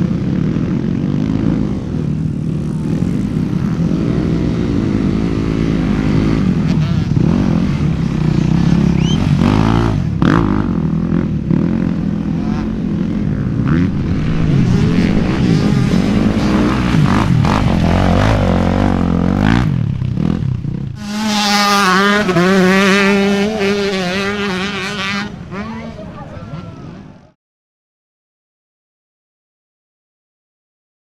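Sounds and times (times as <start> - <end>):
dirt bike engines revving: 0.0 - 27.4.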